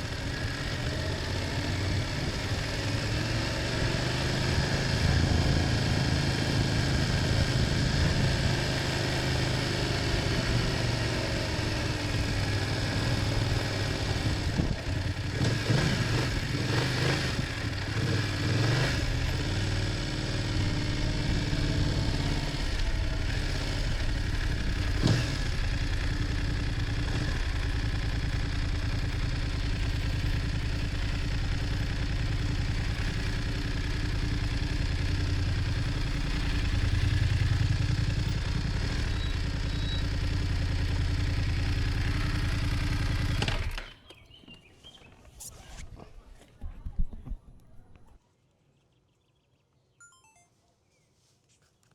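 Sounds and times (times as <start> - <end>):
motorcycle engine slowing: 0.0 - 44.6.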